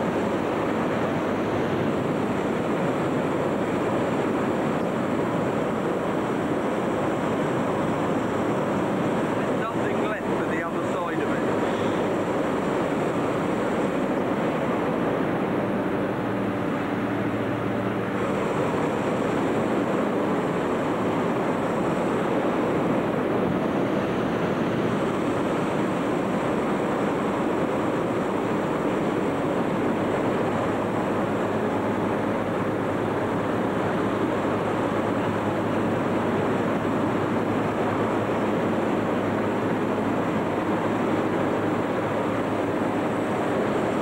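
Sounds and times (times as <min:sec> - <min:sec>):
inflator fans rushing: 0:00.0 - 0:44.0.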